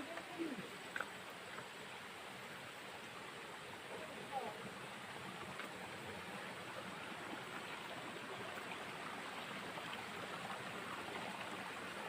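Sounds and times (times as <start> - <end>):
mountain stream running water: 0.0 - 12.0.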